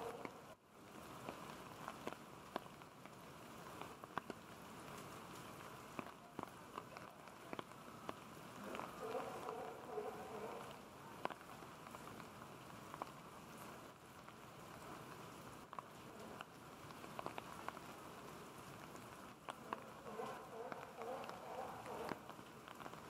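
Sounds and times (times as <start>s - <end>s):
sharp water drips: 0.0s - 23.0s
steady rain: 0.0s - 23.0s.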